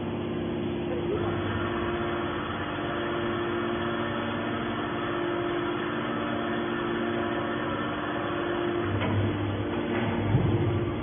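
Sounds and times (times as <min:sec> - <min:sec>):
hydraulic baler machine hum: 0:00.0 - 0:11.0.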